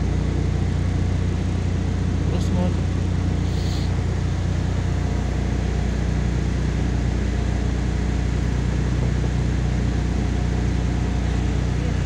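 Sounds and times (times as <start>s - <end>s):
bus engine low drone: 0.0s - 12.0s.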